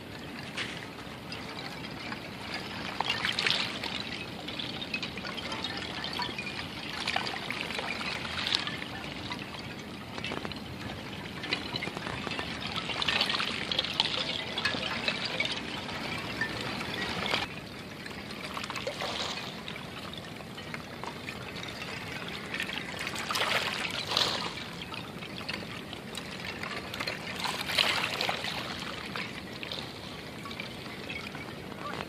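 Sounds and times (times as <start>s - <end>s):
small waves washing on stones: 0.0s - 32.0s
ice shards clinking: 0.2s - 32.0s.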